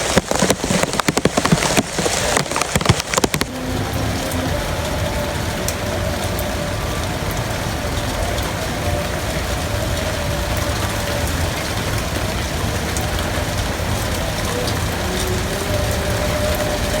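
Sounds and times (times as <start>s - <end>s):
deep rumble: 0.0s - 17.0s
heavy rain falling: 0.0s - 17.0s
strong wind: 0.0s - 17.0s.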